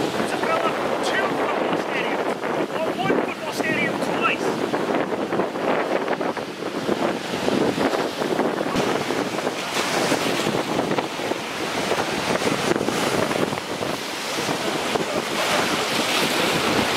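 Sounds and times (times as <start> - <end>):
surf breaking on rocky shore: 0.0 - 16.9
wind buffeting microphone: 0.0 - 16.9.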